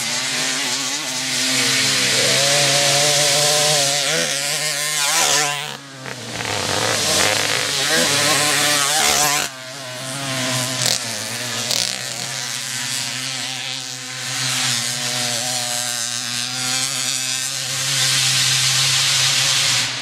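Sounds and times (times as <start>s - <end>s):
distant motorbike engine: 0.0s - 20.0s
motocross bike engine revving: 0.0s - 20.0s.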